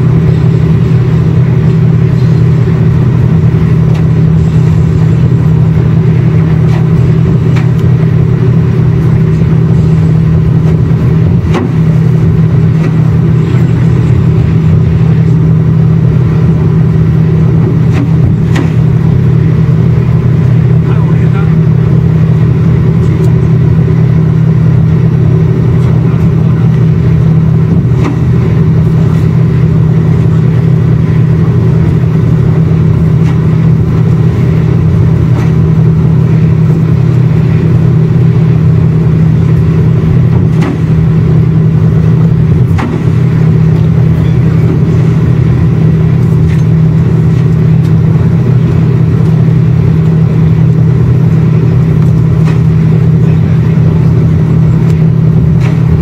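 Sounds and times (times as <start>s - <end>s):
ferry engines droning: 0.0s - 56.0s.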